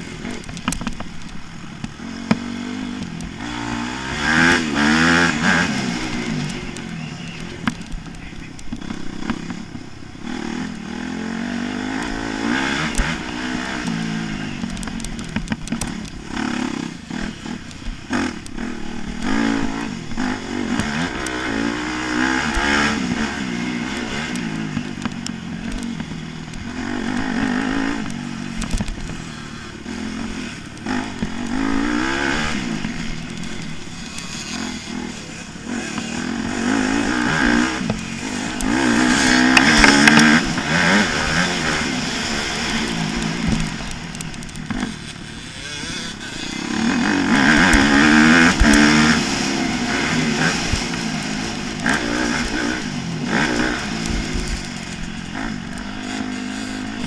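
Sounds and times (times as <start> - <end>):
dirt bike engine revving: 0.0 - 57.0
sharp clicks and knocks: 0.2 - 9.8, 11.7 - 57.0.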